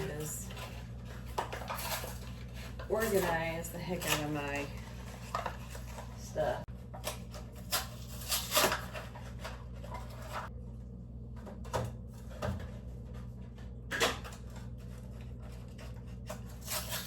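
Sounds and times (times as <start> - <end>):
groceries knocking and clattering: 0.0 - 10.5, 11.3 - 17.0
steady low hum: 0.0 - 17.0.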